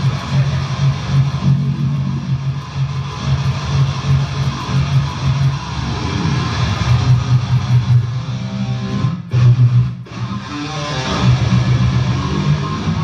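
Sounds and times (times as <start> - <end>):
electric guitar heavy chords: 0.0 - 13.0.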